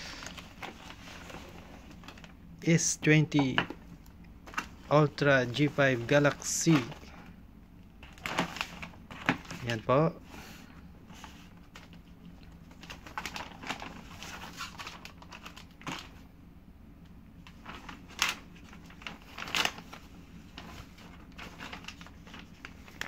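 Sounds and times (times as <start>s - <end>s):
plastic packaging crinkling: 0.0s - 2.5s, 3.3s - 7.3s, 7.9s - 10.0s, 11.1s - 16.2s, 17.4s - 23.0s.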